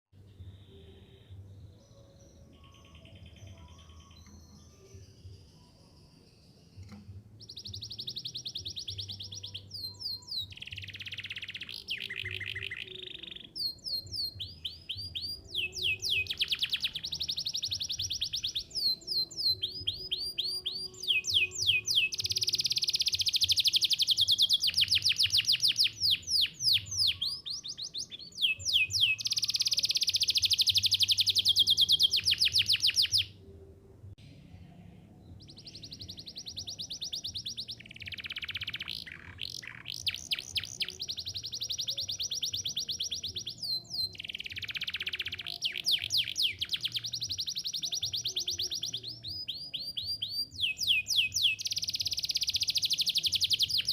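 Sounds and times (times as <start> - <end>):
canary singing trills: 0.5 - 33.4, 35.3 - 53.9.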